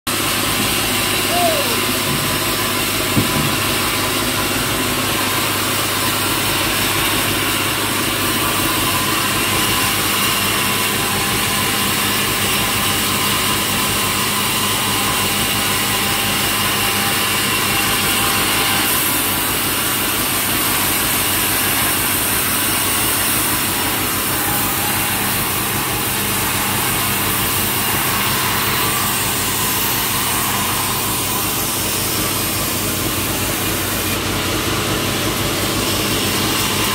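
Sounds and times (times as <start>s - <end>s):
sawmill saw running: 0.1s - 36.9s.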